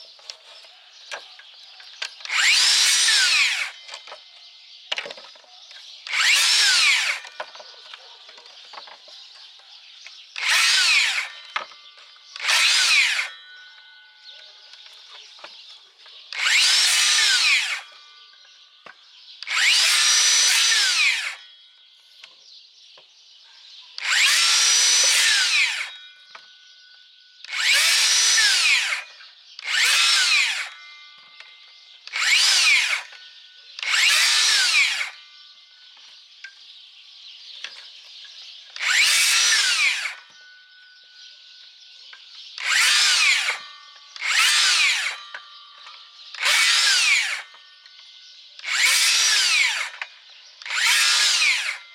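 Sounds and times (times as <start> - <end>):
circular saw cutting branches: 0.0 - 4.2, 4.9 - 9.4, 10.0 - 14.0, 14.7 - 21.6, 24.0 - 26.5, 27.5 - 36.3, 37.6 - 40.8, 42.5 - 51.9.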